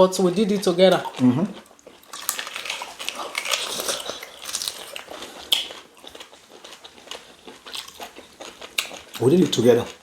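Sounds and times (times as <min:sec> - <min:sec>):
wet chewing and mouth smacks: 0:00.5 - 0:10.0.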